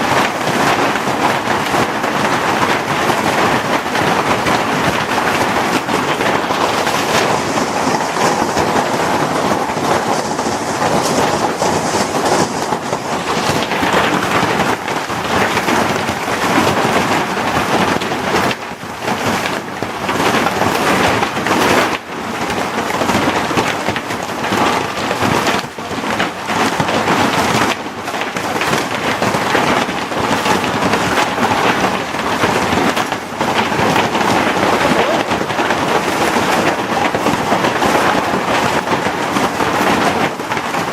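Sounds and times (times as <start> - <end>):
heavy hail clattering: 0.0 - 40.9.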